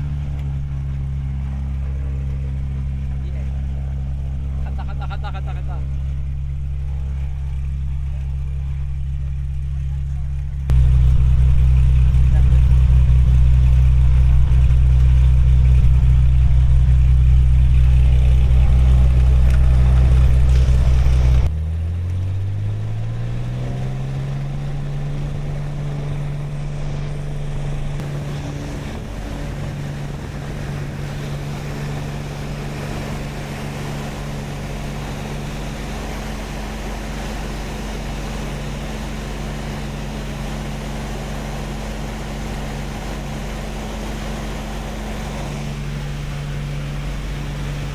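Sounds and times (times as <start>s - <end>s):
small plane engine running: 0.0s - 47.9s.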